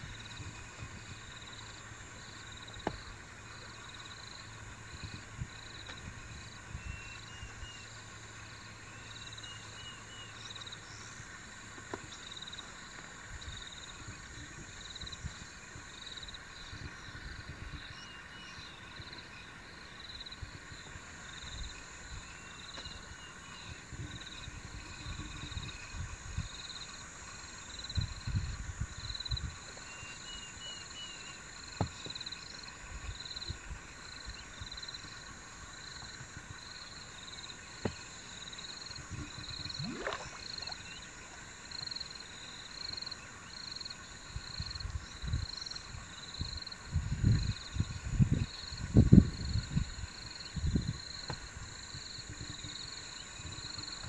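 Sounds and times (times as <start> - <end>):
frogs pulsing calls: 0.0 - 54.0
frogs trilling: 0.0 - 54.0.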